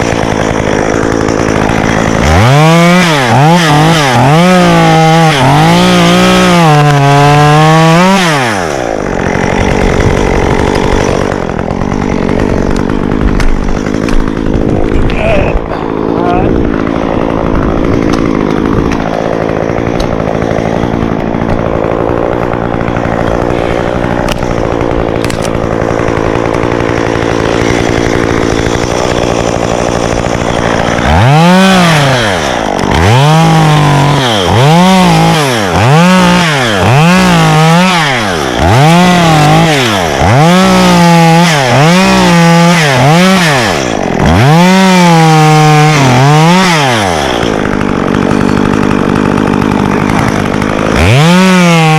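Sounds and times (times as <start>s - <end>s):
chainsaw running and revving: 0.0s - 51.9s.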